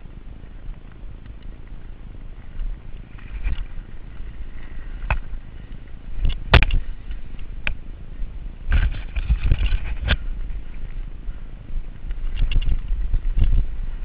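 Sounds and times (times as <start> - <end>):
wind and tyre rumble: 0.0 - 14.0.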